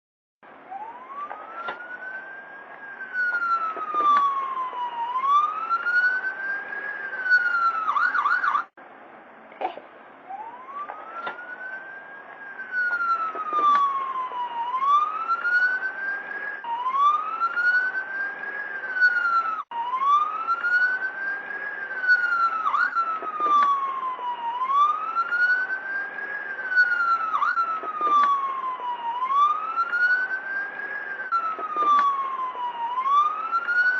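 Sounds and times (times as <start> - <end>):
ambulance siren wailing: 0.5 - 8.8, 10.2 - 33.9
siren rapid yelp: 0.6 - 8.8, 10.3 - 33.9.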